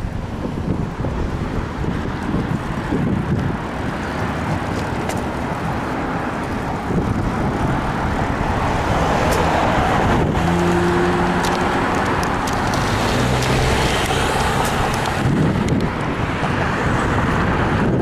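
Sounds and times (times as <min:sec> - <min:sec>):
cars passing on street: 0:00.0 - 0:18.0.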